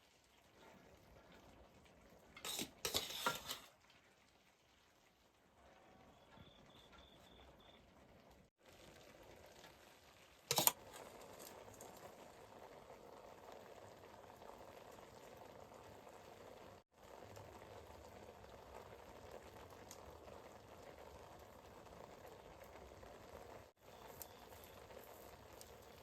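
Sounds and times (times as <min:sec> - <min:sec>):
pot of food bubbling: 0:00.0 - 0:26.0.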